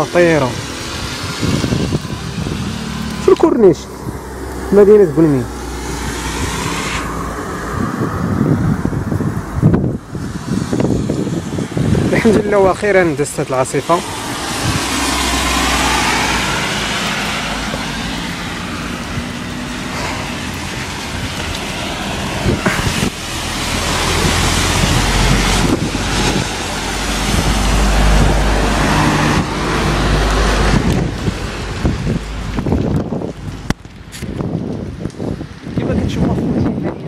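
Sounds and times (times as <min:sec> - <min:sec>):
gusty wind buffeting microphone: 0:00.0 - 0:37.0.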